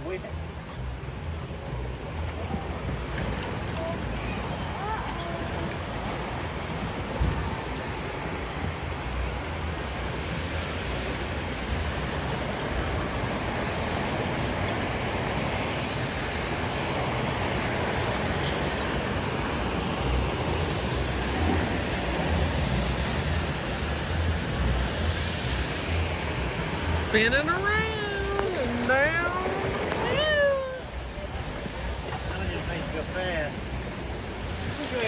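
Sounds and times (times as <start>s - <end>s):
rushing whitewater: 0.0s - 35.0s.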